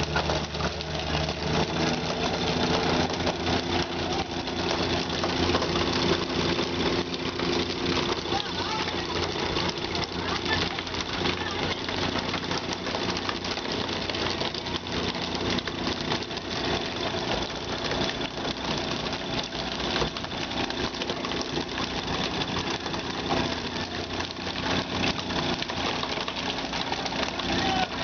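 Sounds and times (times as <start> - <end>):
boat engine running steadily: 0.0 - 28.0.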